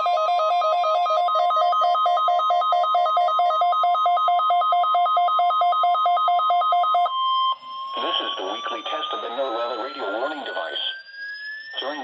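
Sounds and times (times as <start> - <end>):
steady warning alarm tone: 0.0 - 12.0
rapid two-pitch electronic beeps: 0.9 - 12.0.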